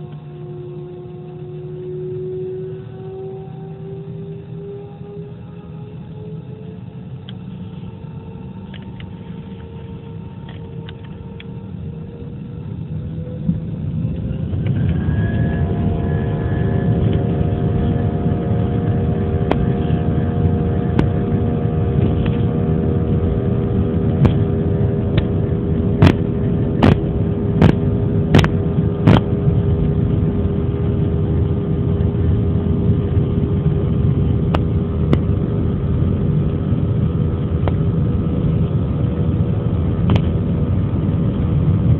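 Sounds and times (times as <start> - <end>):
jet engines rumbling and whining: 0.0 - 41.9.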